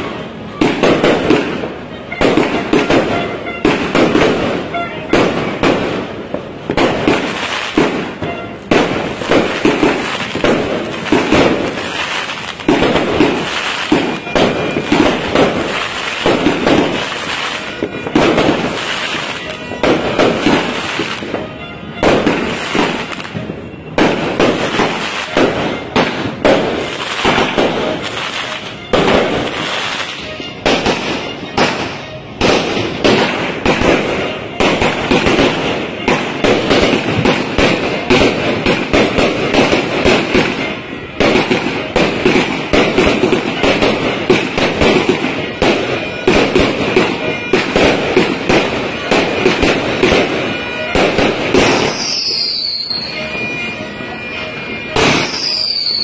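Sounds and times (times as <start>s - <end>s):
fireworks bangs and aerial bursts: 0.0s - 56.0s.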